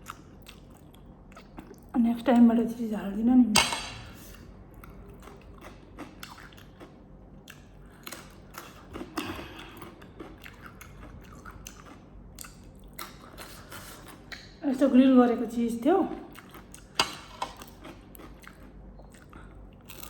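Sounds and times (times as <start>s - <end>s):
person chewing food: 0.0s - 1.9s, 4.0s - 14.6s, 16.3s - 20.0s.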